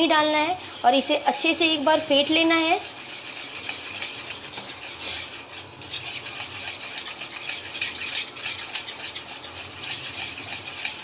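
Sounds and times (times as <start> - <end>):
whisk scraping plastic bowl: 0.0 - 11.0.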